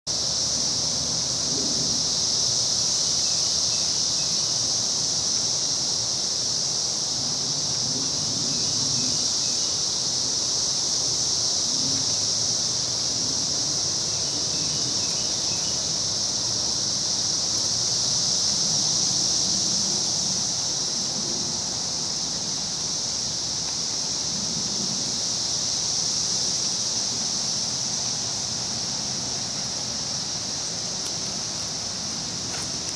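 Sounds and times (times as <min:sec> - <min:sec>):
cicada chorus drone: 0:00.1 - 0:32.9.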